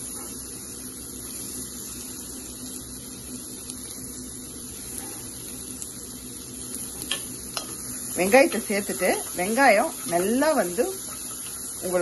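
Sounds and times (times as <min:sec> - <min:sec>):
onion sizzling in butter: 0:00.0 - 0:12.0.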